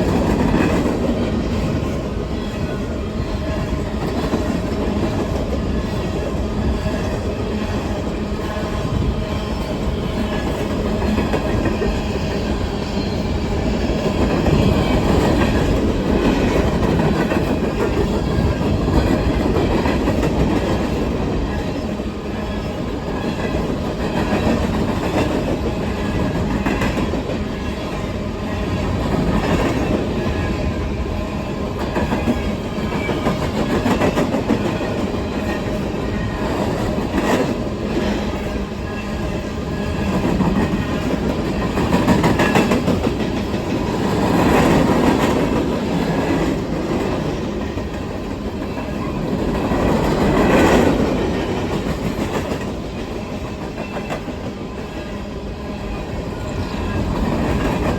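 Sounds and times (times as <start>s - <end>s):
freight train rolling past: 0.0s - 57.9s.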